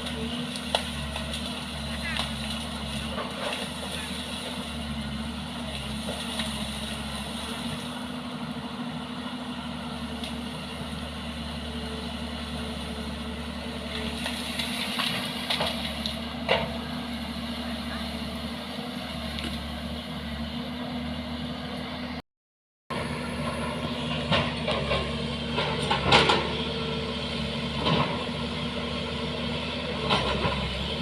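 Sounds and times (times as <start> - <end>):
vehicle engine running steadily: 0.0 - 22.2, 22.9 - 31.0.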